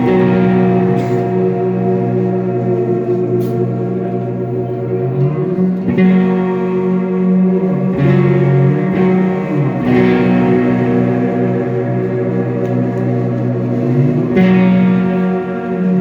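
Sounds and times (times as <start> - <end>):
electric guitar chords with reverb: 0.0 - 16.0.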